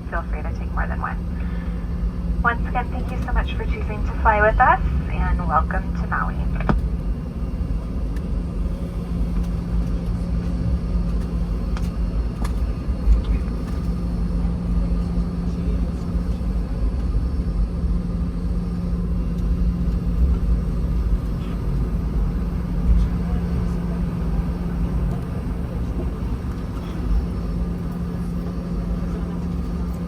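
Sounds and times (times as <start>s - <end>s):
airliner cabin rumble and hum: 0.0s - 30.0s.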